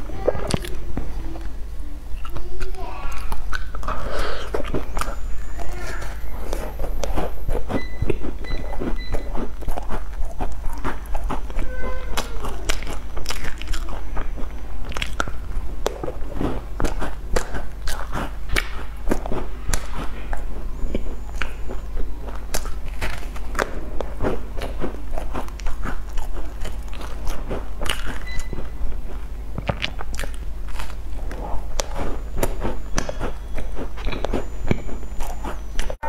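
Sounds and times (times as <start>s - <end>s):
crunchy biting and chewing: 0.0s - 36.0s.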